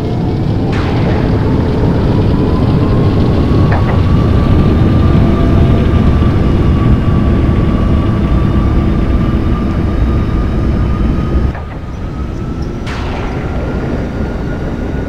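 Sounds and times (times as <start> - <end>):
aircraft engine rumble: 0.0 - 15.0
thin steady whine: 0.0 - 15.0.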